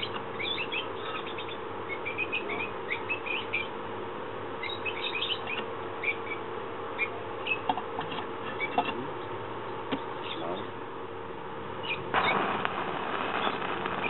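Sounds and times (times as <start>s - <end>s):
small birds chirping: 0.0s - 3.8s, 4.6s - 10.8s, 11.8s - 14.0s
faint steady hum: 0.0s - 14.0s.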